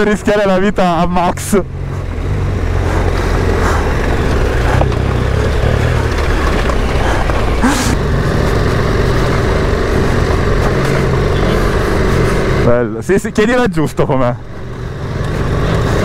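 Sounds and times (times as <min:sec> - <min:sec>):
motorcycle engine running: 0:00.8 - 0:16.0.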